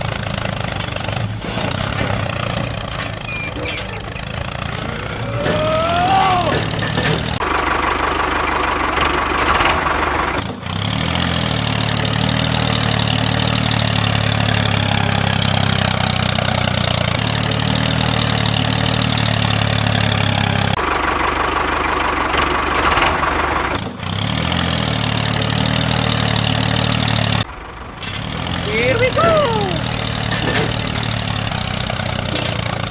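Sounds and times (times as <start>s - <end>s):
small tractor engine idling: 0.0s - 32.9s.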